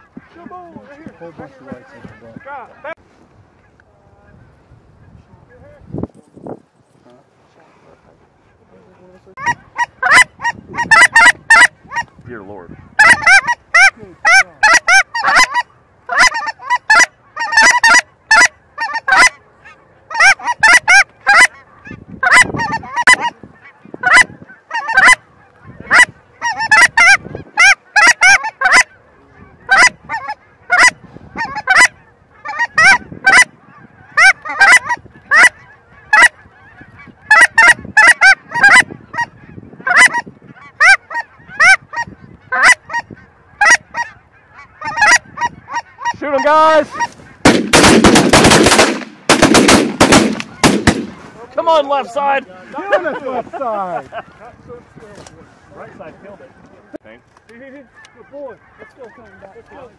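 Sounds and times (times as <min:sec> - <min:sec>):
goose honking: 0:00.0 - 0:03.0, 0:07.9 - 0:59.9.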